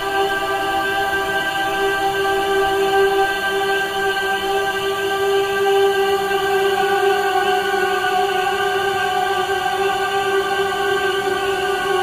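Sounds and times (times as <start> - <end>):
meditation music drone: 0.0 - 12.0.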